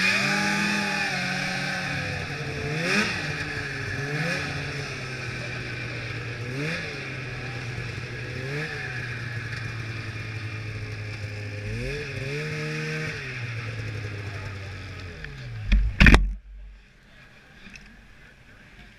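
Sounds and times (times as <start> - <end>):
snowmobile engine running: 0.0 - 16.9.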